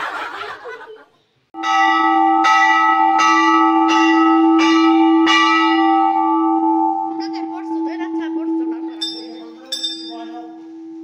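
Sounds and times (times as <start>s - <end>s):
brass bell struck and ringing: 1.6s - 11.0s.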